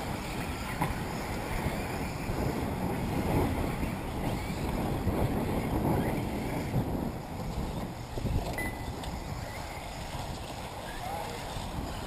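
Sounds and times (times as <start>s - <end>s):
faint whir of rc buggies: 0.0s - 12.0s
wind buffeting microphone: 0.0s - 12.0s.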